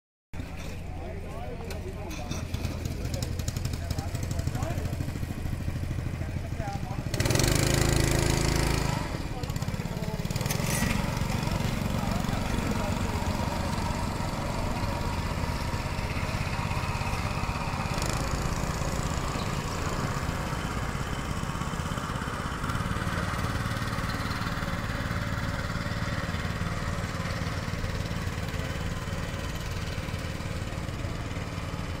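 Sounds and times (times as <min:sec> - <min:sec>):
outboard motor droning: 0:00.4 - 0:32.0.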